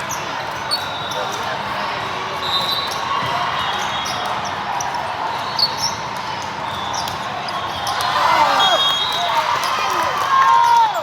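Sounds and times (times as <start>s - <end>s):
crowd murmur in large hall: 0.0s - 11.0s.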